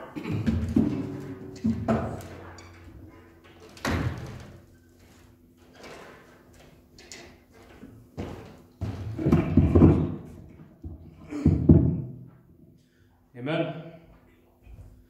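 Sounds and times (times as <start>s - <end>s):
handling knocks and thumps: 0.1s - 12.3s.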